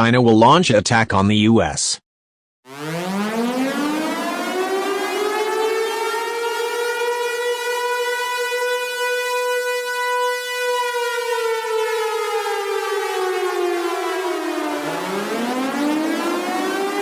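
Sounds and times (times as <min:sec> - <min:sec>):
civil defense siren wailing: 0:02.7 - 0:17.0.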